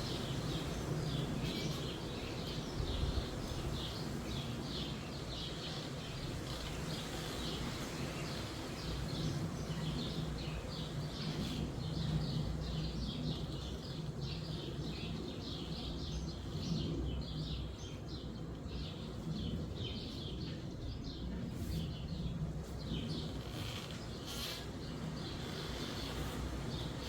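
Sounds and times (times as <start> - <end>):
low wind rumble: 0.0 - 27.0
sparrows chirping: 0.0 - 27.0.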